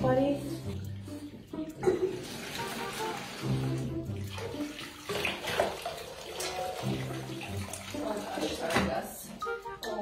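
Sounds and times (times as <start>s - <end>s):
water pouring and splashing: 0.0s - 9.9s
background music with low notes: 0.0s - 10.0s.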